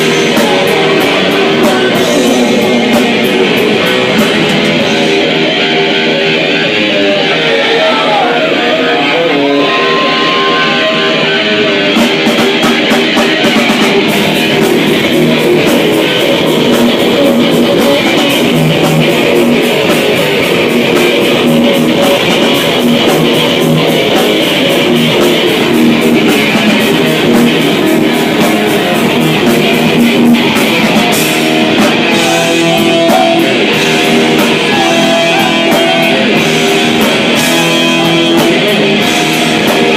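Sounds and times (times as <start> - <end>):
electric guitar: 0.0 - 39.9
live rock band: 0.0 - 39.9.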